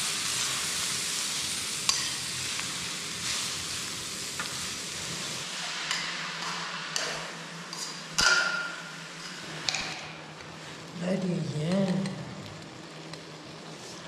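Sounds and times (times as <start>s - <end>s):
food sizzling in a pot: 0.0s - 14.0s.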